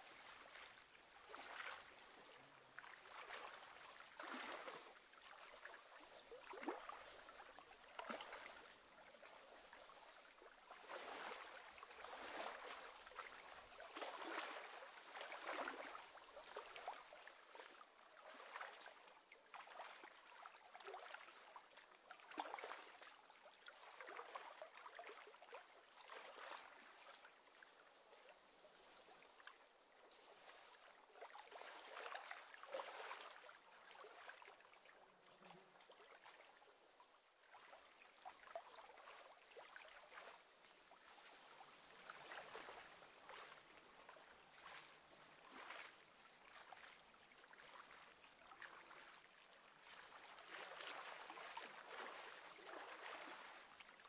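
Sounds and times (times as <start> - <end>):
small waves lapping: 0.0 - 54.0.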